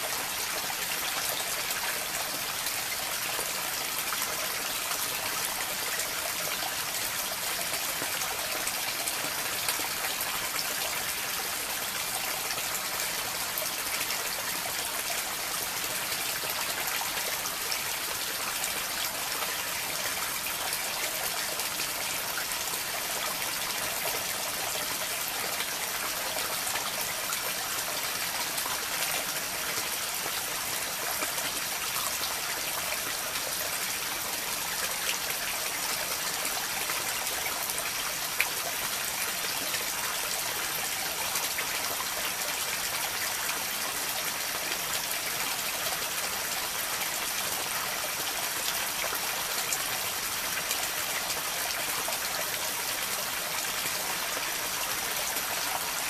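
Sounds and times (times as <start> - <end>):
water trickling and flowing: 0.0 - 56.0.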